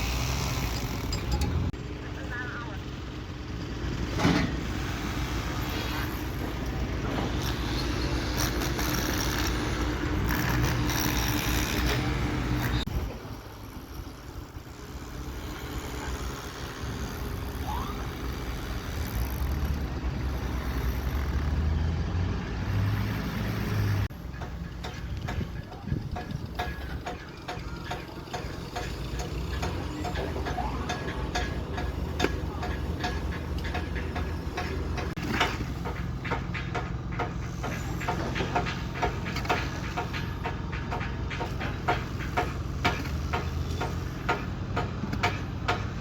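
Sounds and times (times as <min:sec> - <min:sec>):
heavy machinery engine droning: 0:00.0 - 0:46.0.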